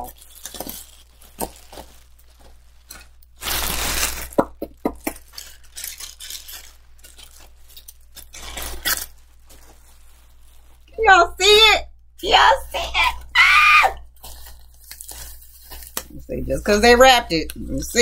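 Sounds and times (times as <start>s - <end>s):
plastic bag rustling and crinkling: 0.0s - 11.7s, 14.0s - 18.0s.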